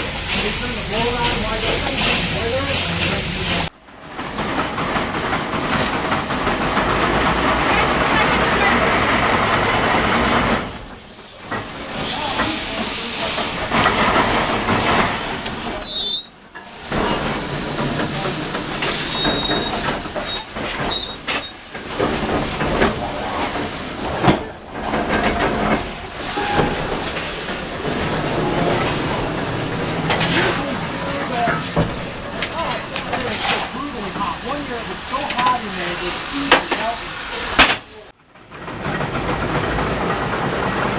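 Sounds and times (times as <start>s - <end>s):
steam hissing: 0.0s - 3.7s, 4.3s - 38.2s
machinery clatter: 0.0s - 40.9s.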